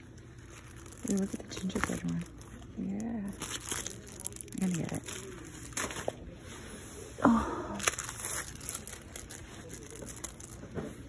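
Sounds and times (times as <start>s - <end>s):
plastic crinkling and rustling: 0.0s - 6.7s, 7.8s - 11.0s.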